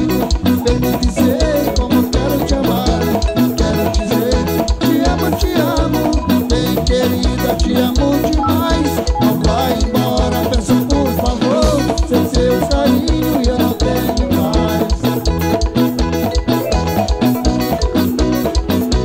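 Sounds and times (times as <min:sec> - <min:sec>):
fast drum-kit beat: 0:00.0 - 0:19.0
live band dance music: 0:00.0 - 0:19.0.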